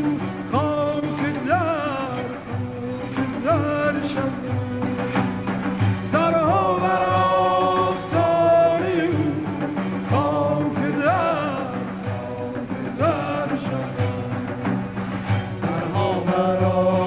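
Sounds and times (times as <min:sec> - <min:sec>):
lutes strumming: 0:00.0 - 0:17.0
man singing: 0:00.0 - 0:17.0.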